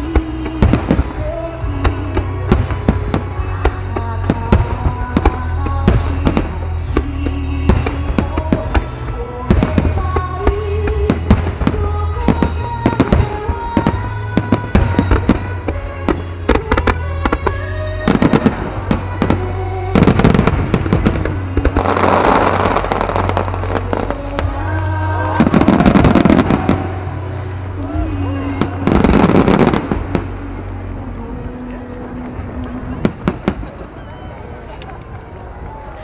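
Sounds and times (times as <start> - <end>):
dense firework crackling: 0.0 - 31.2
music playing: 0.0 - 36.0.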